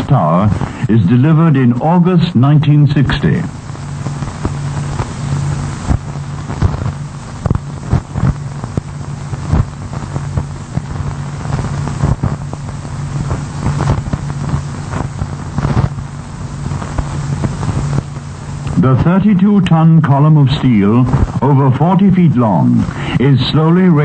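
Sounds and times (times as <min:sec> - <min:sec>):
noisy hiss: 0:00.0 - 0:24.0
steady low hum: 0:00.0 - 0:24.0.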